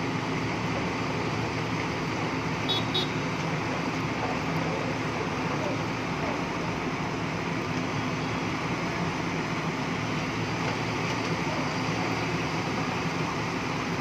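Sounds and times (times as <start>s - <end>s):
diesel excavator engine running: 0.0s - 14.0s.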